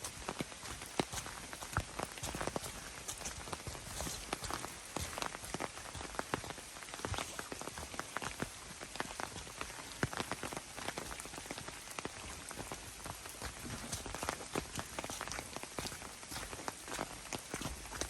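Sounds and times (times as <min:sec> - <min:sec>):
sharp raindrops striking: 0:00.0 - 0:18.0
steady hiss of rain: 0:00.0 - 0:18.0.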